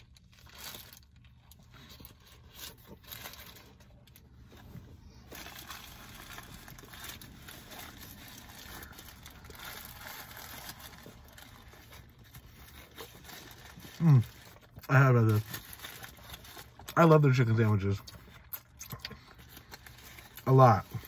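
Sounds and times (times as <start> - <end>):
chewing crispy food: 0.0 - 21.0
low steady hum: 0.0 - 21.0
paper wrappers crinkling: 0.0 - 21.0.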